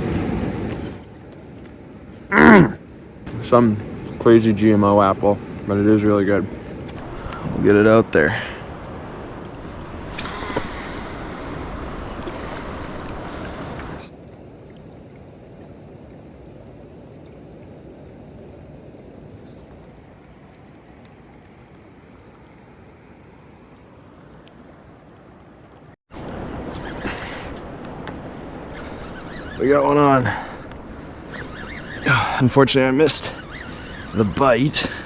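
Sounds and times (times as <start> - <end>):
rushing river water: 0.0 - 35.0.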